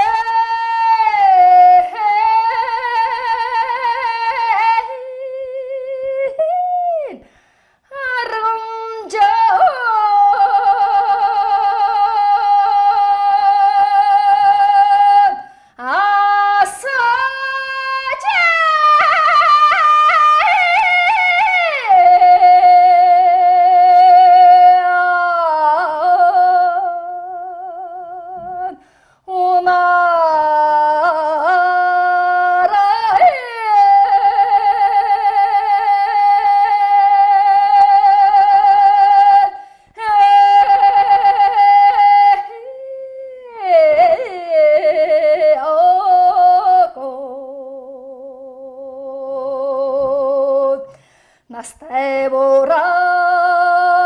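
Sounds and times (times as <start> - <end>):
woman singing long held notes: 0.0 - 7.3, 7.9 - 54.0.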